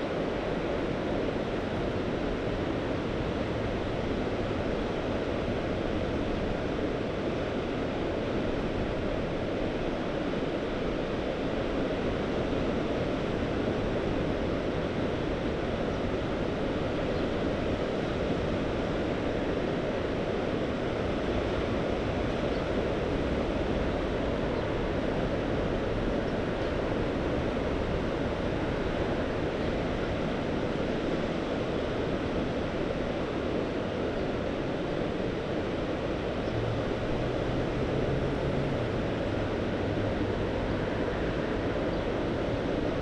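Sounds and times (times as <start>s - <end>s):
wind rumble on microphone: 0.0s - 43.0s.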